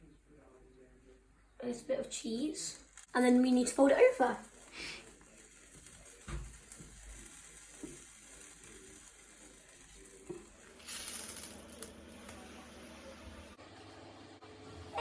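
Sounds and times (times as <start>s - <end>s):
wrap sizzling in a pan: 2.3s - 15.0s.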